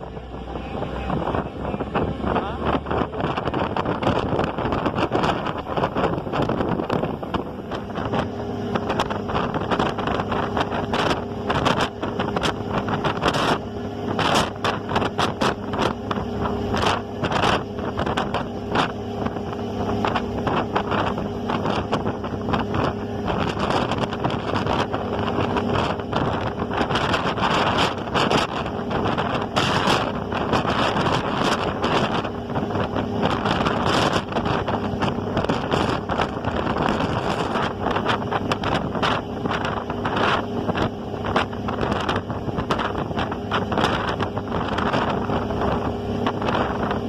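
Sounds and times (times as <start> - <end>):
ferry engine humming: 0.0 - 47.0
wind buffeting microphone: 0.0 - 47.0.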